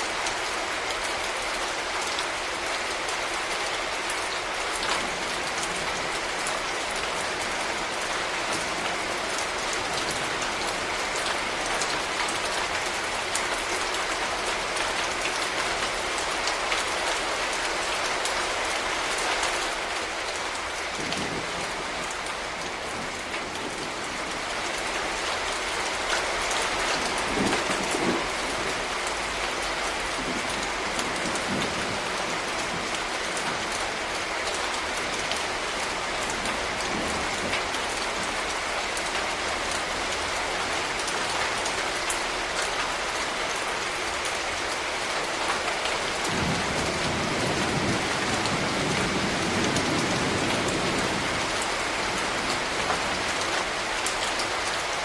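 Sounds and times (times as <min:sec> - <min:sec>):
rain falling on a street: 0:00.0 - 0:55.0.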